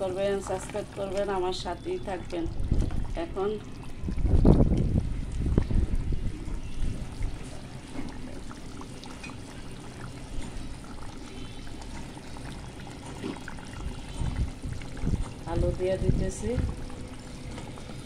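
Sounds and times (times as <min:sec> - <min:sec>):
curry simmering with small pops: 0:00.0 - 0:18.0.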